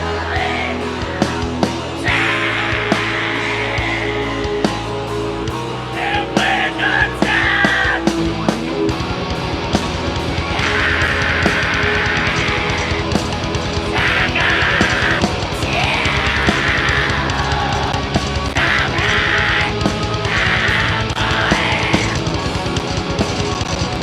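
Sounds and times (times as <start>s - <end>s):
fast drum beat: 0.0s - 24.0s
heavy metal band playing: 0.0s - 24.0s.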